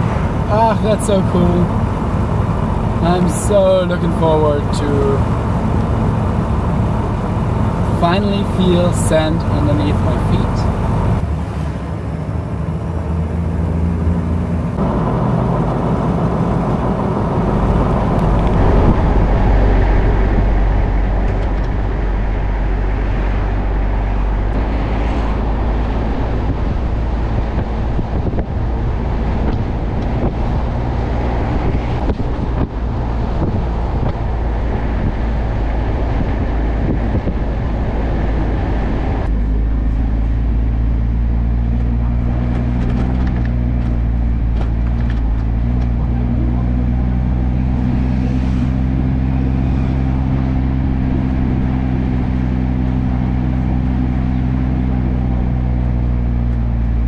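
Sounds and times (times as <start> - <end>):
car engine drone: 0.0 - 57.0
road and wind rush: 0.0 - 57.0.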